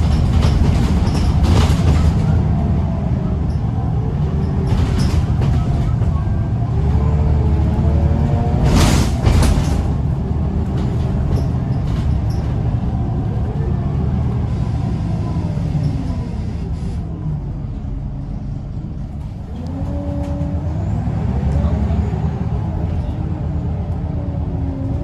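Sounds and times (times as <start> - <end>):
bus diesel engine pulling hard: 0.0 - 25.0.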